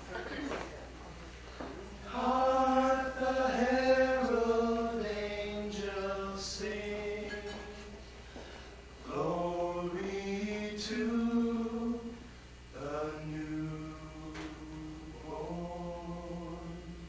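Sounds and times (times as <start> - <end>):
men's a cappella singing: 2.0 - 8.1, 9.0 - 17.0.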